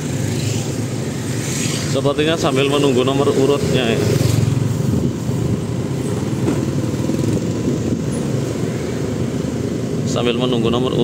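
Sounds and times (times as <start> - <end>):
motorbikes passing: 0.0 - 11.0
motorcycle engines rumbling: 0.0 - 11.0
road noise: 0.0 - 11.0.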